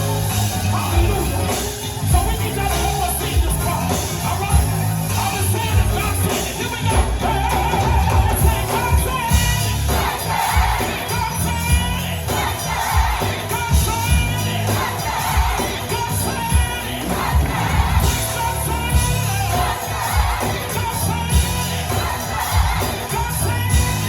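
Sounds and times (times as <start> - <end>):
band with strong bass and beat: 0.0 - 24.0
gospel choir singing: 0.0 - 24.0.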